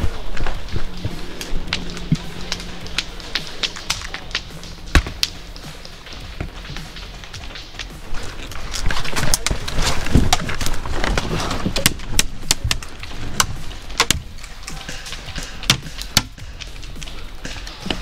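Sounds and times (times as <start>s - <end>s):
pellets striking wood: 0.7s - 18.0s.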